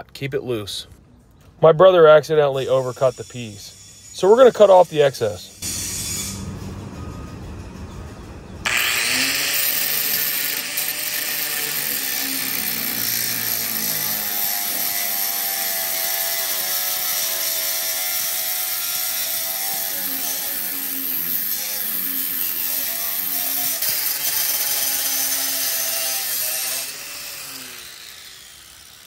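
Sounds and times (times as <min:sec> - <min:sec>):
angle grinder cutting metal: 0:02.4 - 0:06.5, 0:08.6 - 0:29.0.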